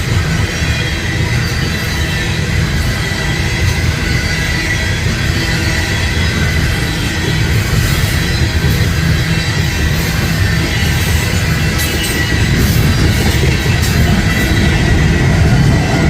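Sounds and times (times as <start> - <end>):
high wheel squeal: 0.0 - 16.0
train wheels rumbling on track: 0.0 - 16.0.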